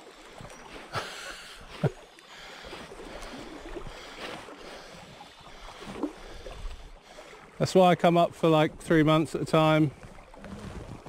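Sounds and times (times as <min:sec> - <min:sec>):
river water flowing around legs: 0:00.0 - 0:11.0.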